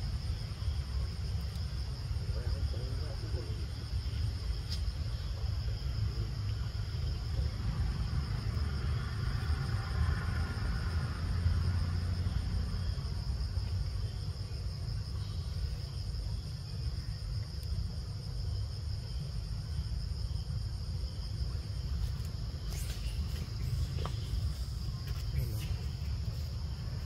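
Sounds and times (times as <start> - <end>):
constant low rumble: 0.0 - 27.0
insects droning: 0.0 - 27.0.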